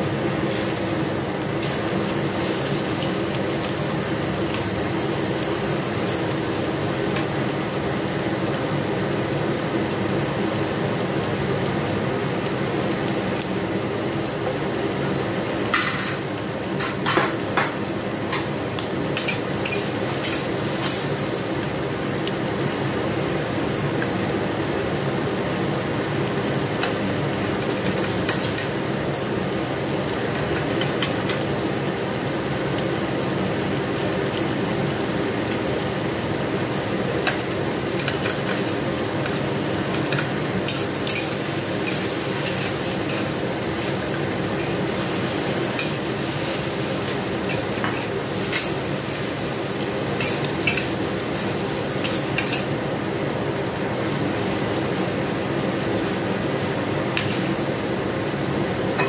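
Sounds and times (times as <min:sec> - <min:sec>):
vegetables sizzling in a wok: 0:00.0 - 0:59.0.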